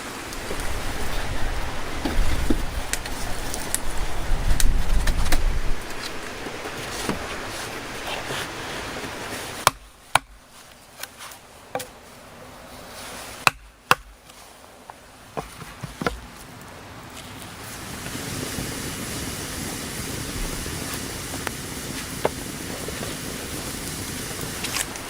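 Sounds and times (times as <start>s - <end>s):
rushing outdoor noise: 0.0s - 25.0s.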